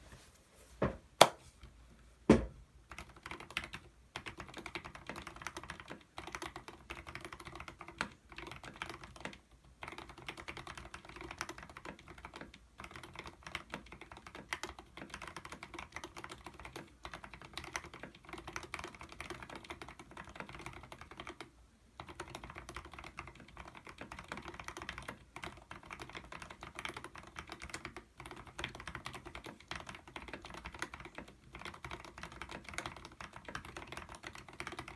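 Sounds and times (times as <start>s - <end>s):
mechanical keyboard typing: 2.9s - 34.9s.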